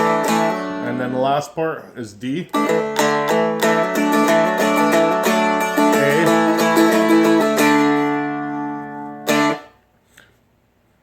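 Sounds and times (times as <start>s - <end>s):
acoustic guitar melody and strums: 0.0s - 9.8s.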